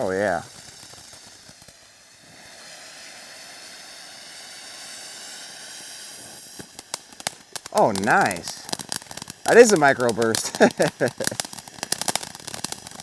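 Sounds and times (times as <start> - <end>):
firework fountain hissing: 0.0 - 13.0.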